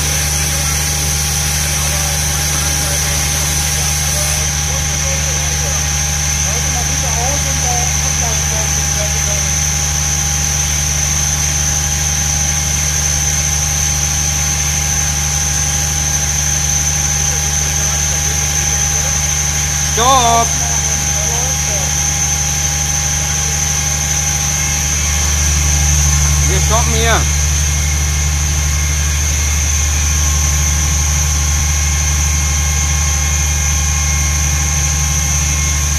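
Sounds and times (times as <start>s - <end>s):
diesel engine droning: 0.0s - 35.9s
high whine: 0.0s - 35.9s.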